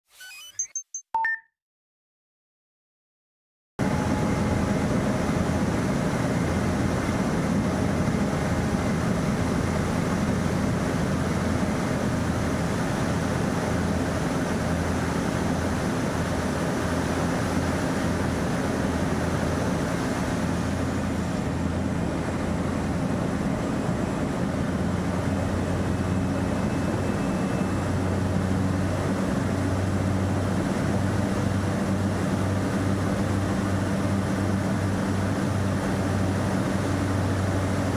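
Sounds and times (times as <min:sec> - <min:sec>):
turboprop engines humming: 0:03.8 - 0:37.9.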